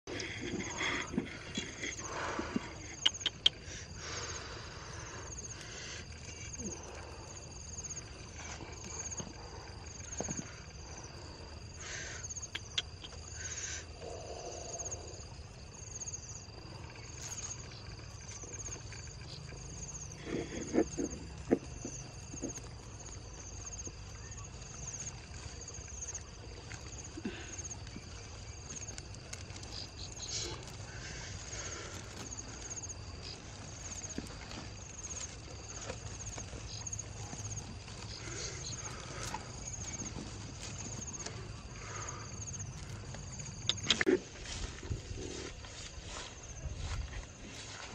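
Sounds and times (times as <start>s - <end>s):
insects trilling: 0.0s - 47.9s.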